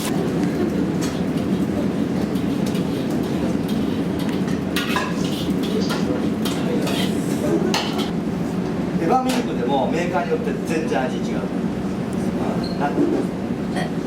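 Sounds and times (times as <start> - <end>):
kitchen low roar: 0.0 - 14.0.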